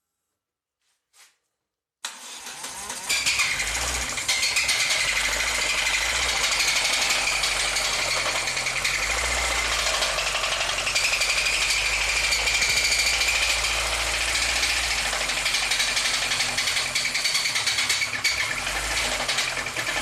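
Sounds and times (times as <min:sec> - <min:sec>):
car engine starting: 0:02.0 - 0:20.0
engine metallic knocking: 0:03.4 - 0:20.0.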